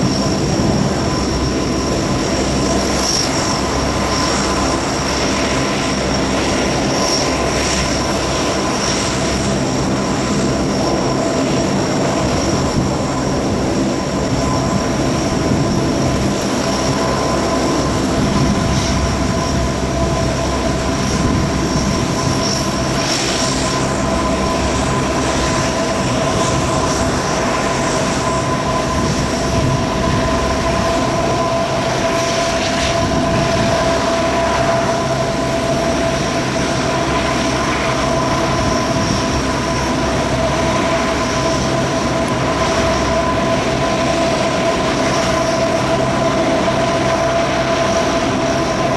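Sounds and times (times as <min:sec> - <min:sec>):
turboprop engines whining: 0:00.0 - 0:48.9.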